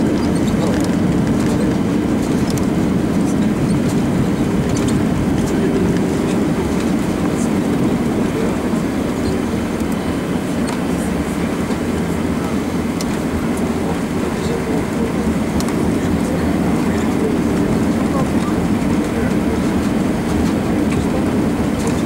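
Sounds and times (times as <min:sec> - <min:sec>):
aircraft cabin rumble: 0:00.0 - 0:22.0.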